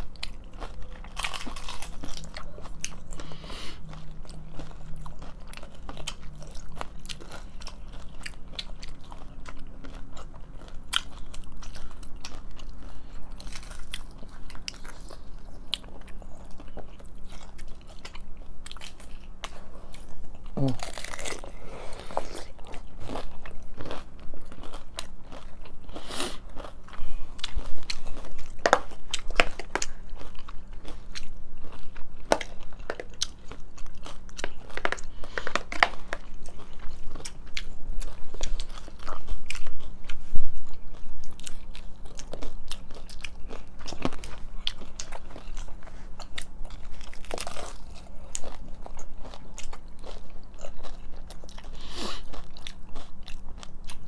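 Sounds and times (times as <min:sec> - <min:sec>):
crunching and chewing tacos: 0:00.0 - 0:54.0.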